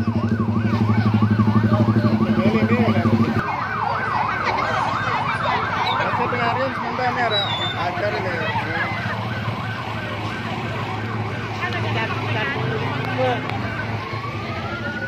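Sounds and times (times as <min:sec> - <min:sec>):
crowd chatter and calls: 0:00.0 - 0:15.0
electronic siren yelping: 0:00.0 - 0:15.0.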